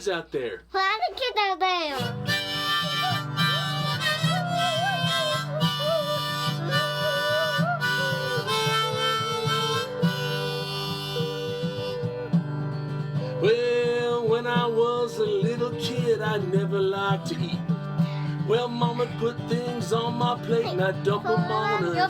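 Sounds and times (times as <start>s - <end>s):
strummed acoustic guitar: 1.9s - 22.0s
harmonica melody: 2.0s - 22.0s.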